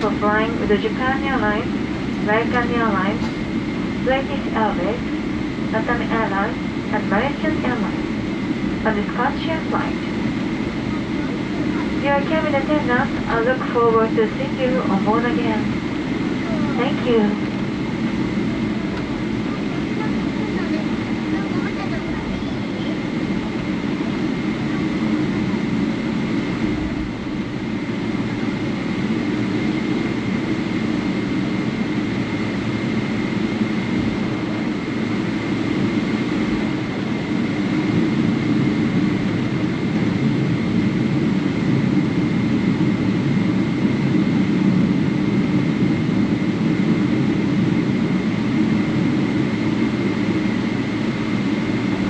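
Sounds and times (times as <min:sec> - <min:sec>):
airliner cabin rumble: 0:00.0 - 0:52.0
thin steady whine: 0:00.0 - 0:52.0.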